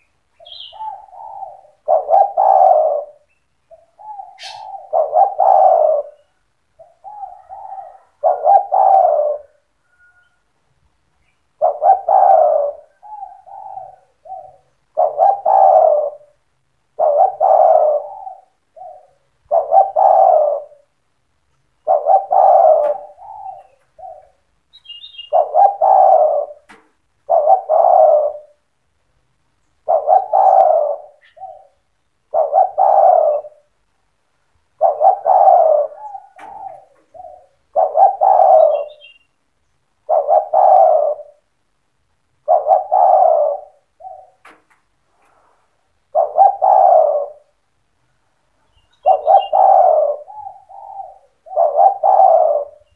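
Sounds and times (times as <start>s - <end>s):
dove cooing: 0.0s - 10.5s, 11.2s - 21.0s, 21.8s - 28.7s, 29.8s - 33.9s, 34.7s - 39.3s, 40.0s - 41.5s, 42.3s - 47.8s, 48.6s - 52.9s.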